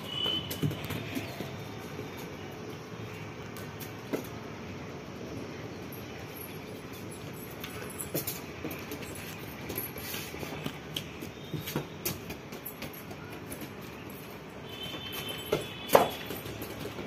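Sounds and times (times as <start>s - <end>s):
bare feet on concrete floor: 0.0s - 4.7s, 6.1s - 17.0s.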